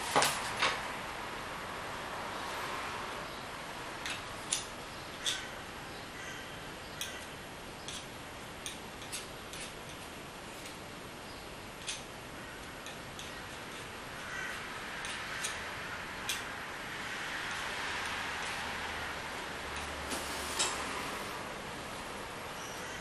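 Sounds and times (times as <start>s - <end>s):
room noise hiss: 0.0s - 23.0s.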